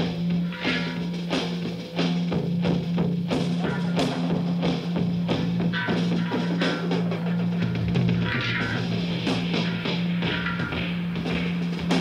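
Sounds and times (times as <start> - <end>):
drum kit beating: 0.0 - 12.0
guitar: 0.0 - 12.0.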